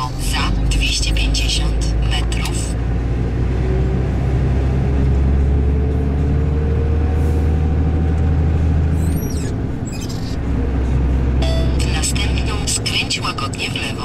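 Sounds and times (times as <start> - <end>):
road noise: 0.0 - 14.0
vehicle engine drone with whine: 0.0 - 14.0.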